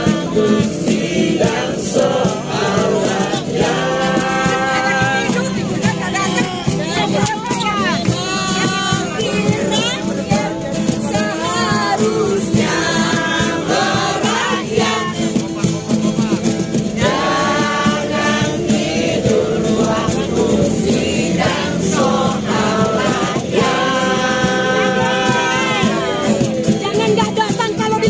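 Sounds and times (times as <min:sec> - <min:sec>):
acoustic guitars: 0:00.0 - 0:28.0
group singing along: 0:00.0 - 0:28.0
people singing: 0:00.0 - 0:28.0.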